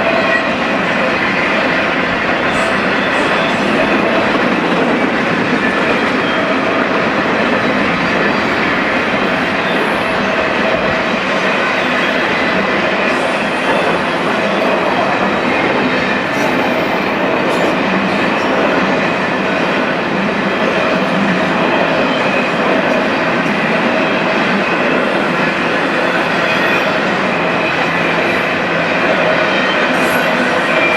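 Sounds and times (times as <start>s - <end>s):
freight train wheels on rails: 0.0s - 30.9s.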